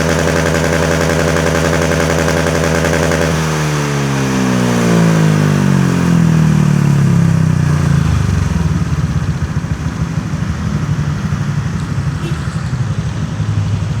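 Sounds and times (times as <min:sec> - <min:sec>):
scooter engine revving and idling: 0:00.0 - 0:14.0.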